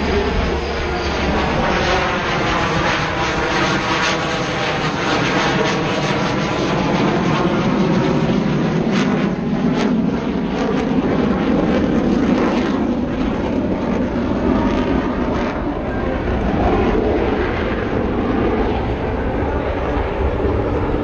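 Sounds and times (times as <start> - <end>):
airplane engine drone: 0.0 - 21.0.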